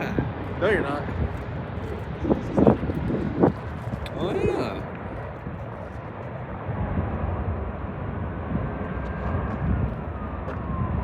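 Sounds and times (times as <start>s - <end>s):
jet engines rushing and whining: 0.0s - 11.0s.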